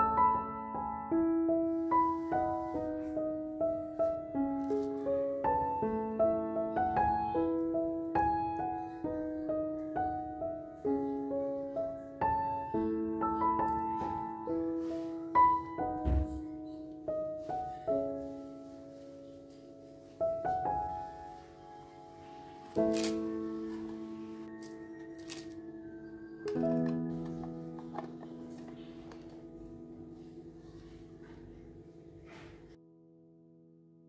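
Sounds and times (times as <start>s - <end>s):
gentle solo piano melody: 0.0s - 34.0s.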